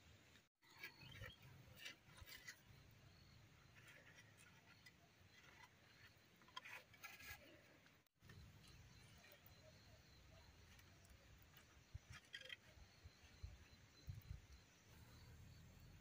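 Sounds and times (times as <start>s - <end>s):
bamboo strip rustling and creaking: 0.3s - 9.5s, 10.3s - 14.4s.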